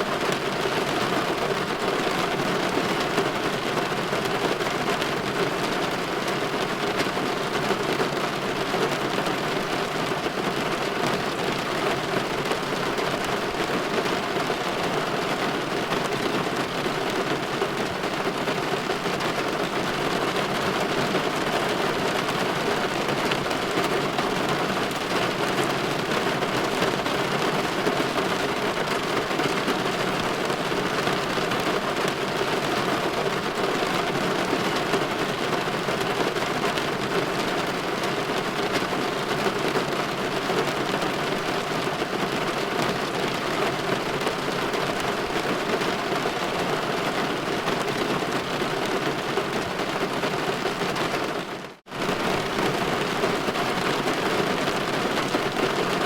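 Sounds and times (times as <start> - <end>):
light rain on a window: 0.0 - 56.0.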